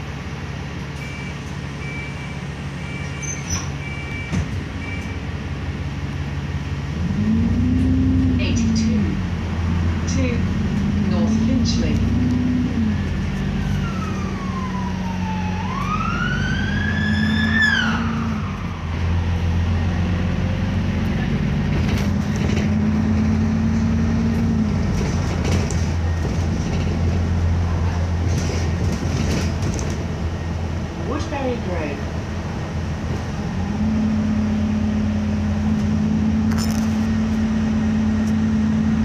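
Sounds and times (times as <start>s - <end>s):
bus diesel engine droning: 0.0s - 39.0s.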